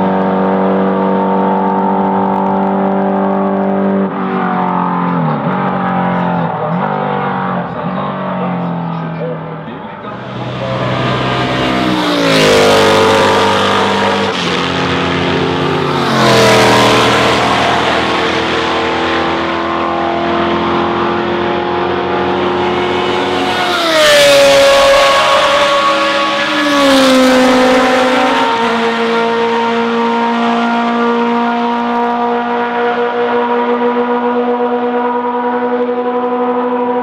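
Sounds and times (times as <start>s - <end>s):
racing cars passing by: 0.0s - 37.0s.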